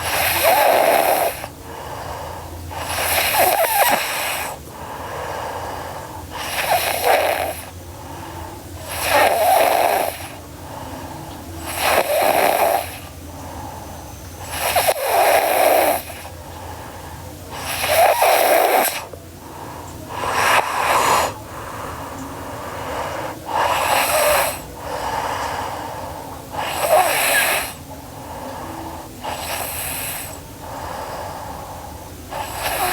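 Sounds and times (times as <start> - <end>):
girl snoring: 0.0 - 7.8, 8.8 - 10.9, 11.6 - 13.2, 14.4 - 16.4, 17.5 - 32.9.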